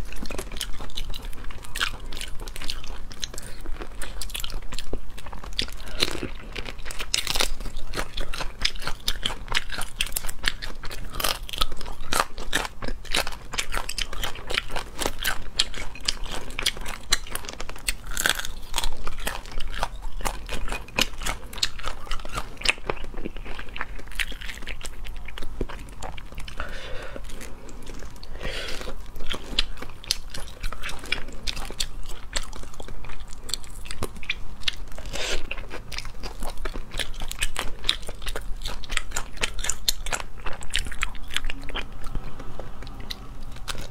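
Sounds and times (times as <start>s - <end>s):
chewing: 0.0s - 43.9s
crunching crayfish shells: 0.0s - 43.9s.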